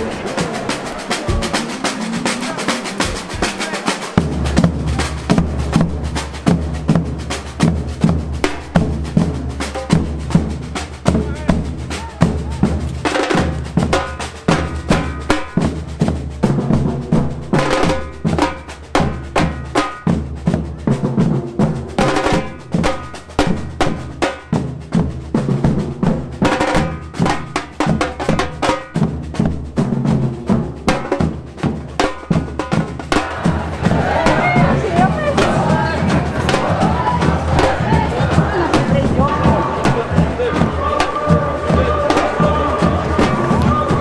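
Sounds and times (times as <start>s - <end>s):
marching drum band playing: 0.0s - 44.0s.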